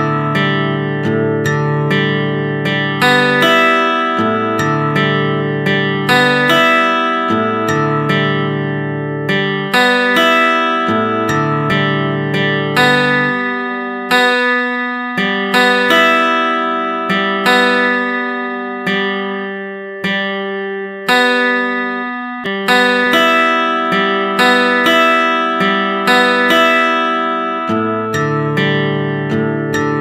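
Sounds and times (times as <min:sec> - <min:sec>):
gentle plucked-string melody: 0:00.0 - 0:30.0.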